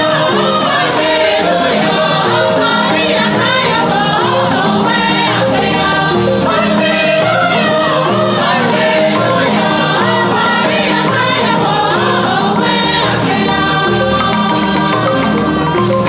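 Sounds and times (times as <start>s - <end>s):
choir singing: 0.0s - 16.0s
rhythmic accompaniment with bass: 0.0s - 16.0s.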